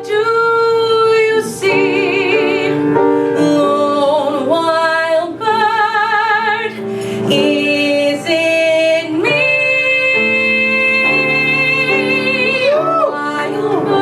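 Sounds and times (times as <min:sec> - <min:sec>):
instrumental accompaniment: 0:00.0 - 0:14.0.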